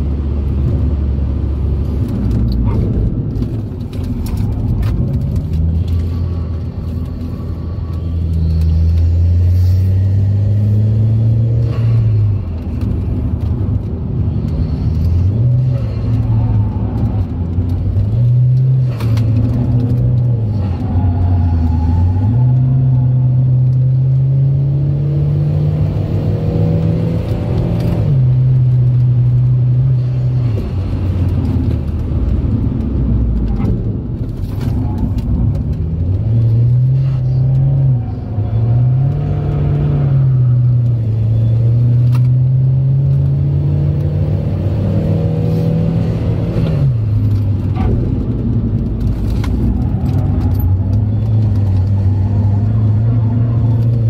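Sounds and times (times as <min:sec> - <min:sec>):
turbocharged car engine: 0:00.0 - 0:54.0.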